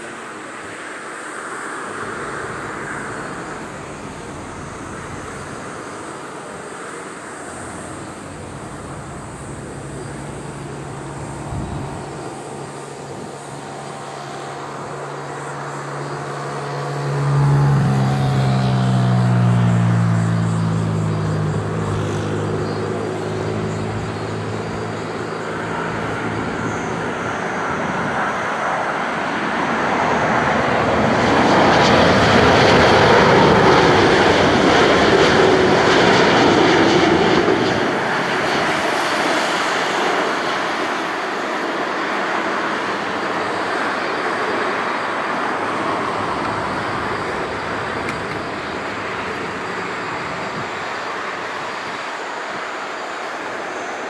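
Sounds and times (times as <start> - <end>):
jet airliner roar: 0.0 - 54.0
passing vehicle engine drone: 0.0 - 54.0.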